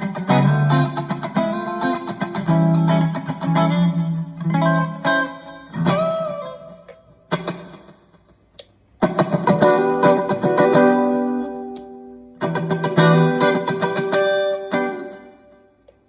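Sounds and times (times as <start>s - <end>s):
electric guitar notes and chords: 0.0s - 8.4s, 9.0s - 15.9s.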